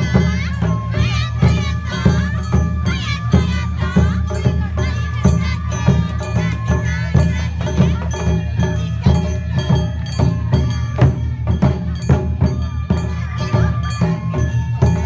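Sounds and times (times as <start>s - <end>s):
drums in steady rhythm: 0.0s - 15.0s.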